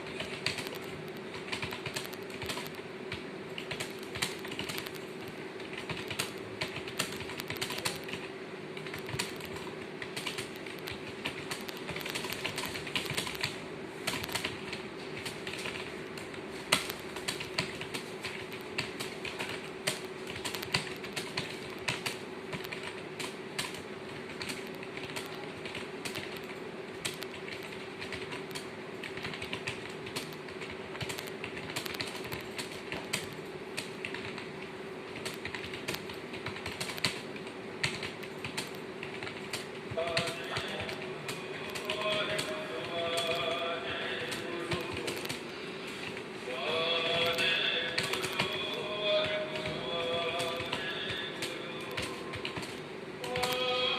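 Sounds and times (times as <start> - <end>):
fast keyboard typing: 0.0 - 53.9
steady low hum: 0.0 - 53.9.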